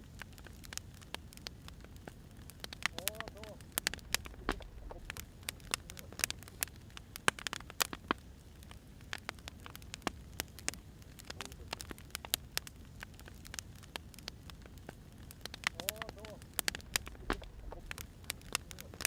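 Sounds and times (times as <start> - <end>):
firewood crackling and popping: 0.0 - 19.0.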